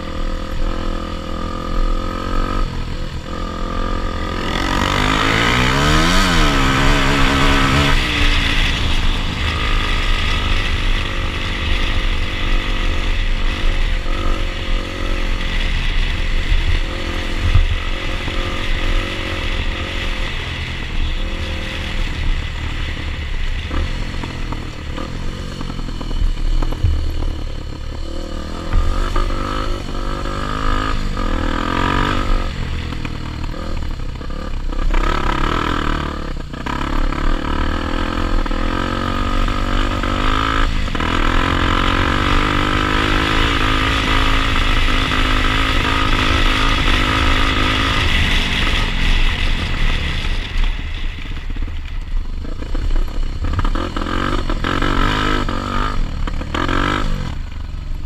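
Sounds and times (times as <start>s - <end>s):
dirt bike engines revving: 0.0s - 58.0s
low wind rumble: 0.0s - 58.0s.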